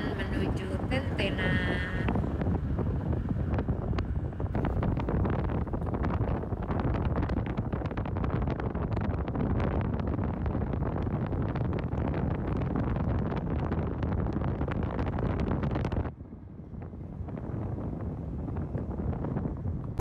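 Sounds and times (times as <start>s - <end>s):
car road noise rumble: 0.0s - 20.0s
wind buffeting microphone: 0.0s - 20.0s.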